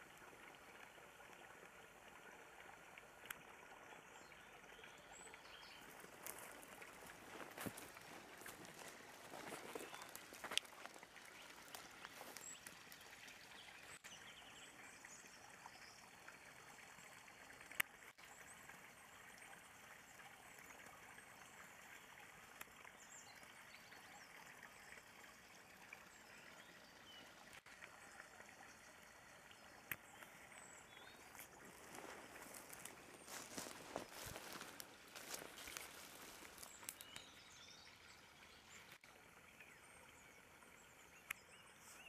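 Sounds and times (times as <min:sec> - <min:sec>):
water trickling: 0:00.0 - 0:42.0.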